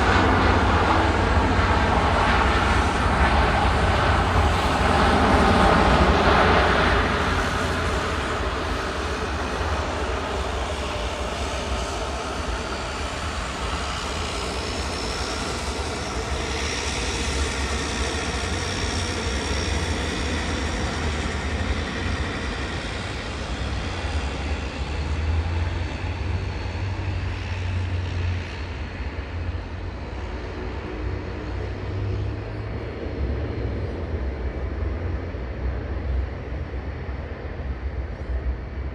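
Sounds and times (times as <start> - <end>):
jet engines passing: 0.0 - 38.9.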